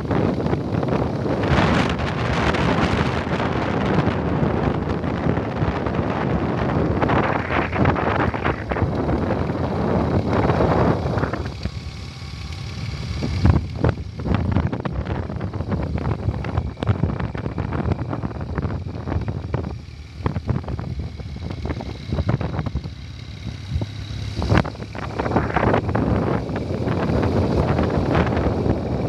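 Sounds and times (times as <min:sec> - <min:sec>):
motorcycle running noise: 0:00.0 - 0:29.0
wind buffeting microphone: 0:00.0 - 0:29.0.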